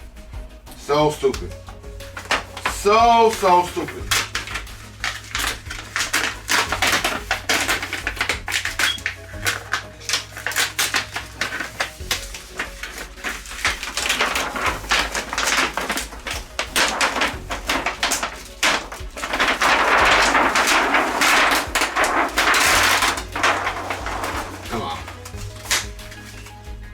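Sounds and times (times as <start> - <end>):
paper and plastic rustling: 0.0 - 26.9
parts clicking and tapping: 0.7 - 26.5.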